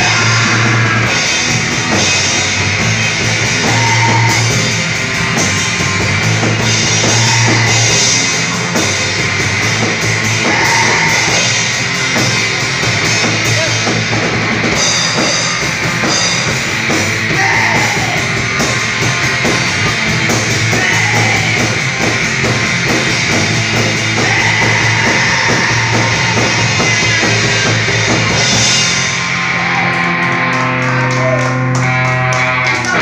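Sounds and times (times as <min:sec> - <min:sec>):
drum kit: 0:00.0 - 0:33.0
electric guitars: 0:00.0 - 0:33.0.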